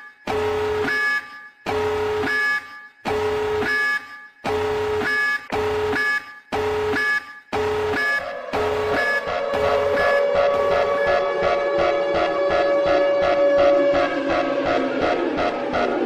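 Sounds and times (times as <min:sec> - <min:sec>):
pulsing electronic alarm tone: 0:00.0 - 0:16.0.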